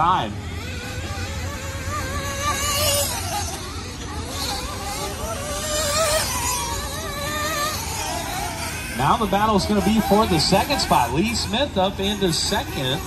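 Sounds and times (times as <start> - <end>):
small engines whining at high revs: 0.0 - 13.0.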